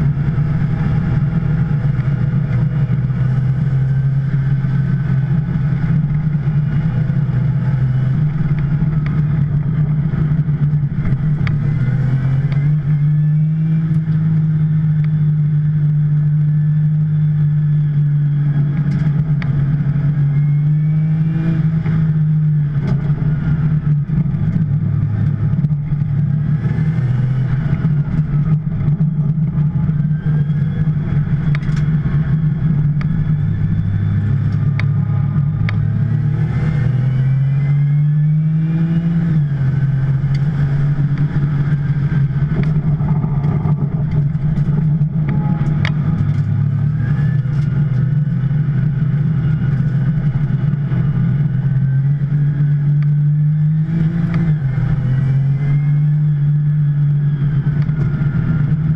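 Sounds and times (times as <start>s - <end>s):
sports car engine racing: 0.0s - 58.9s.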